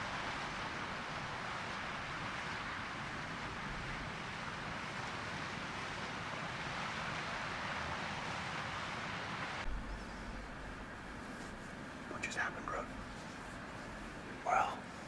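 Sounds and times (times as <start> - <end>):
rushing wind: 0.0 - 12.2.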